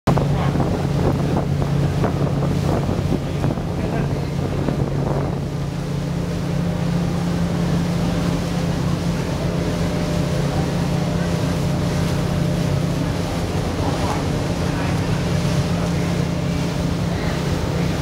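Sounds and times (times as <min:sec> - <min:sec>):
boat engine droning: 0:00.1 - 0:18.0
wind buffeting microphone: 0:00.1 - 0:18.0.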